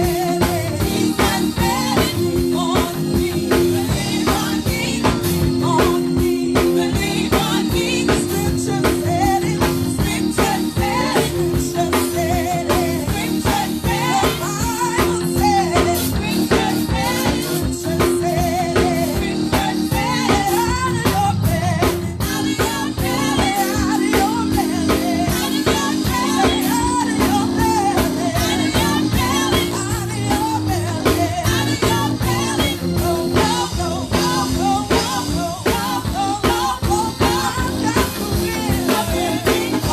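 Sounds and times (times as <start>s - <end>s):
drum kit beat: 0.0s - 39.9s
person singing: 0.0s - 39.9s
sustained instrumental chords: 0.0s - 39.9s.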